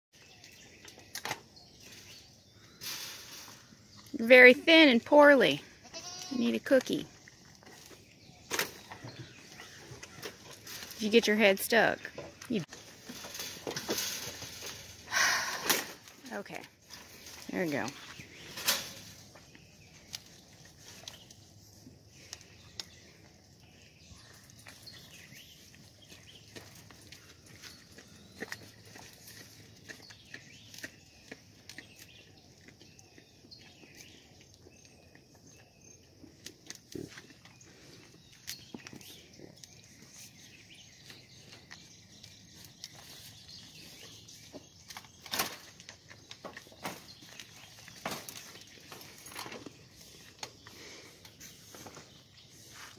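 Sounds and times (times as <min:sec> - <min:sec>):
goats crunching treats: 0:05.7 - 0:11.7, 0:16.0 - 0:52.9.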